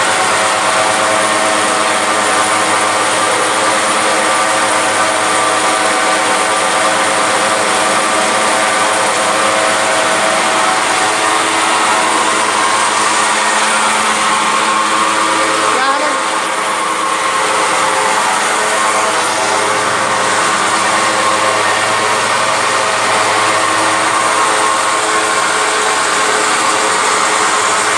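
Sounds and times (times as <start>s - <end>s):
furnace mechanical roar: 0.0s - 27.9s.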